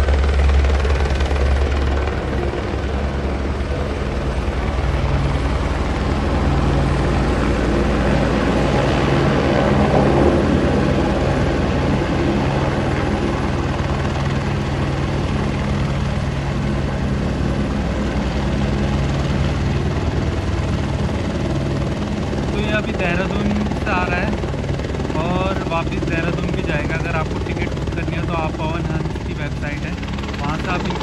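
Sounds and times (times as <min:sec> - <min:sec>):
helicopter rotor and engine: 0:00.0 - 0:31.0.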